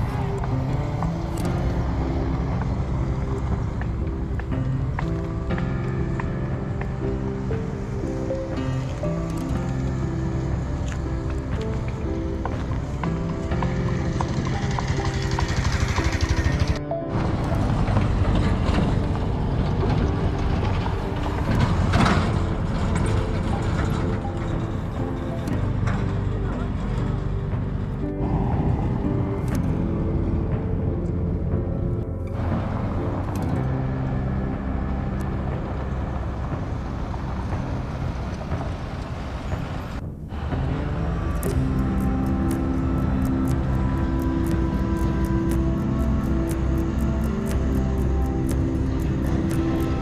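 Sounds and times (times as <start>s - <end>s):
faint background music: 0.0s - 50.0s
road vehicle rumble: 0.0s - 50.0s.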